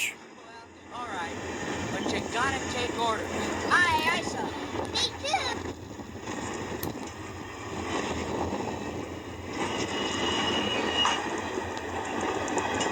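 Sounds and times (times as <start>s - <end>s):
train wheels rumbling on rails: 1.0s - 12.9s.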